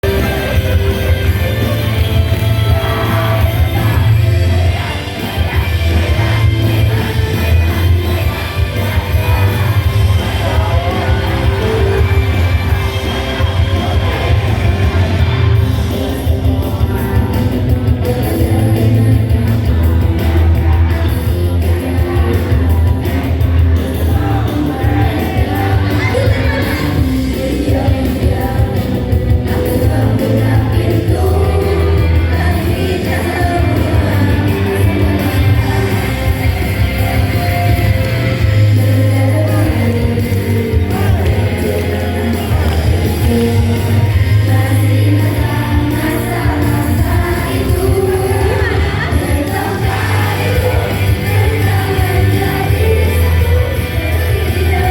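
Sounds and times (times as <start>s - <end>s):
live rock band playing: 0.0s - 54.9s
person singing: 0.0s - 54.9s.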